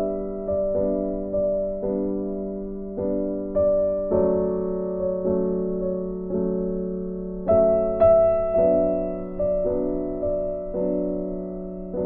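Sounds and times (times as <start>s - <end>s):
soft slow piano chords: 0.0s - 12.0s.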